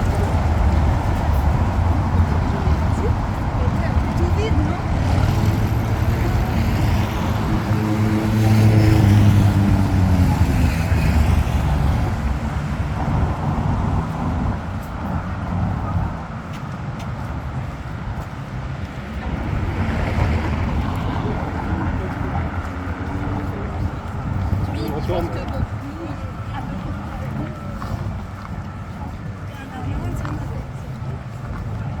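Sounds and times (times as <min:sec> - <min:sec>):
vehicle passing by: 0:00.0 - 0:16.0, 0:17.6 - 0:32.0
steady traffic noise: 0:00.0 - 0:32.0.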